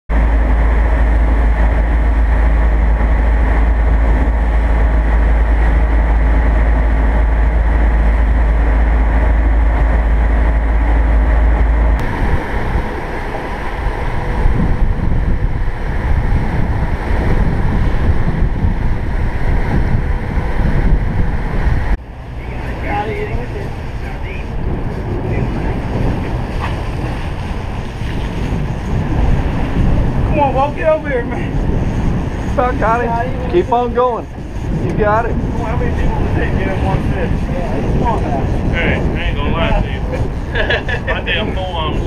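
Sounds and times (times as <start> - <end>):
boat engine drone: 0.1 - 42.0
rush of boat wake: 0.1 - 42.0
wind buffeting microphone: 0.1 - 42.0.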